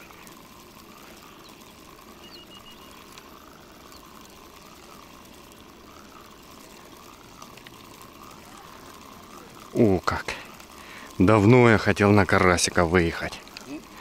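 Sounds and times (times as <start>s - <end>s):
fishing reel whirring: 0.0s - 14.0s.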